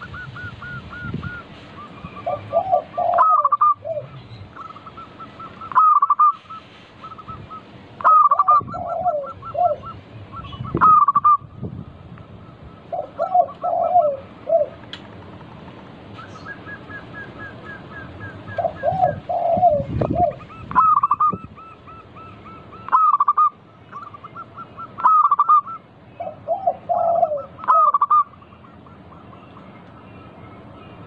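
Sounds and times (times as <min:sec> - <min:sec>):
dove cooing: 0:00.0 - 0:11.5, 0:12.8 - 0:14.9, 0:16.2 - 0:29.6
dove low run of notes: 0:00.0 - 0:31.0.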